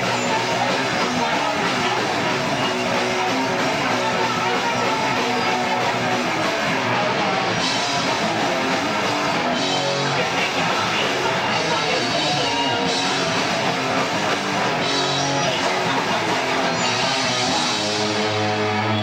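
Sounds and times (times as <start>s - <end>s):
distorted electric guitar: 0.0s - 19.0s
drum kit: 0.0s - 19.0s.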